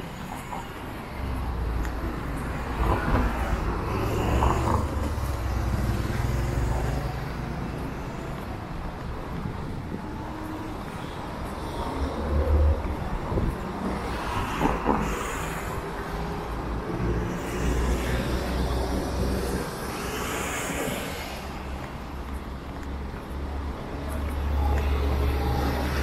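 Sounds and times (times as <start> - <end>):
vehicles passing close by: 0.0 - 26.0.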